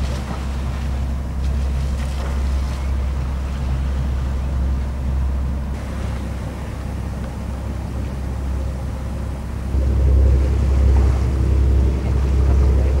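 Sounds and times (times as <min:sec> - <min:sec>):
low rumble: 0:00.0 - 0:13.0
water noise: 0:00.0 - 0:13.0
wind: 0:00.0 - 0:13.0.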